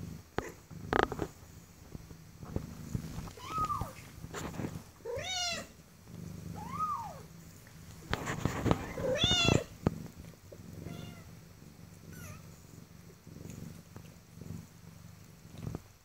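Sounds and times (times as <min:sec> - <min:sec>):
low steady purr: 0:00.0 - 0:16.0.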